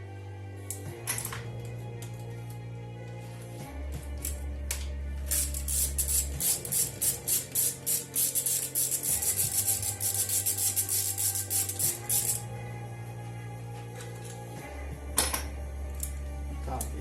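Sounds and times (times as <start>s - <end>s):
background music with bassline: 0.0s - 17.0s.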